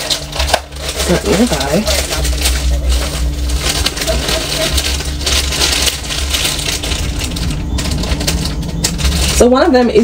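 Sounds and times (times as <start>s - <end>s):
plastic bag crinkling: 0.0s - 10.0s
steady low hum: 0.0s - 10.0s.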